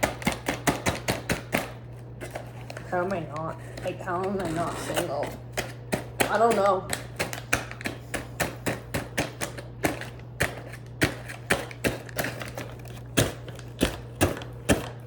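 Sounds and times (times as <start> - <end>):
microwave oven humming: 0.0 - 15.0
popcorn popping: 0.0 - 15.0.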